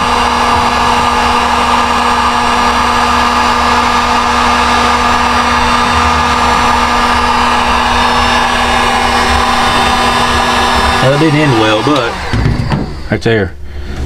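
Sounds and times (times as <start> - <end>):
heat gun fan blowing: 0.0 - 14.0.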